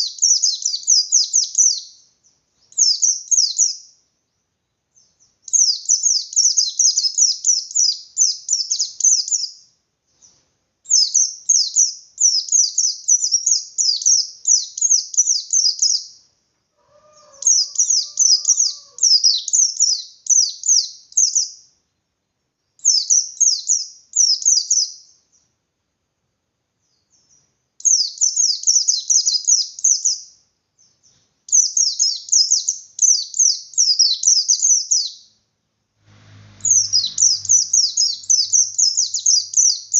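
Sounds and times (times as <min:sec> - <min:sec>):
bird singing rapid chirps: 0:00.0 - 0:04.0, 0:05.0 - 0:16.2, 0:17.1 - 0:21.6, 0:22.8 - 0:25.2, 0:26.9 - 0:35.4, 0:36.3 - 0:39.9.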